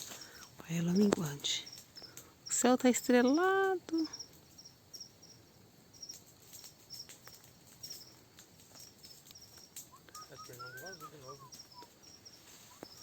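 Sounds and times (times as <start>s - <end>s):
faint clicks: 0.0s - 4.6s, 6.1s - 13.0s
night insects chirping: 0.0s - 13.0s.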